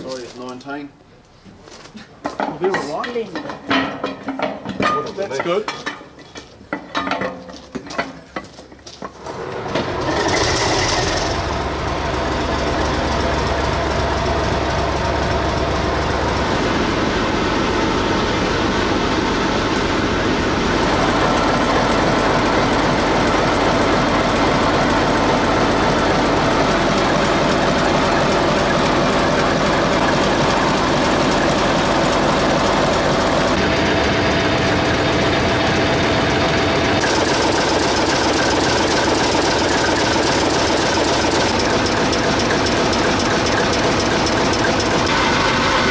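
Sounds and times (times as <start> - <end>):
diesel locomotive engine running: 9.1 - 45.9.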